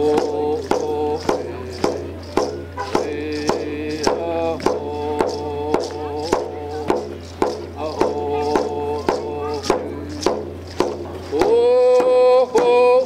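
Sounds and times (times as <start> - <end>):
hand drum beating: 0.0 - 13.0
man singing: 0.0 - 13.0.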